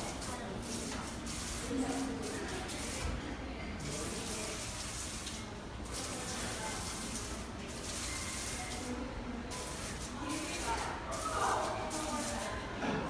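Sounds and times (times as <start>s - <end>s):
fountain water splashing: 0.0s - 3.0s, 3.8s - 12.6s.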